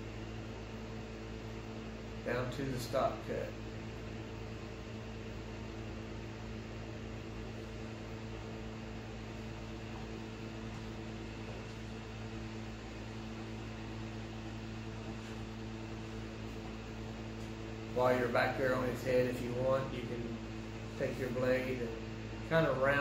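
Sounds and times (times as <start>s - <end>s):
low hum with hiss: 0.0s - 23.0s.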